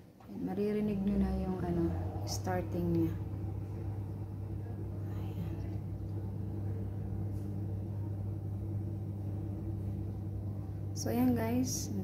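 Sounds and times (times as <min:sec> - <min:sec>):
dishwasher humming: 0:00.0 - 0:12.0.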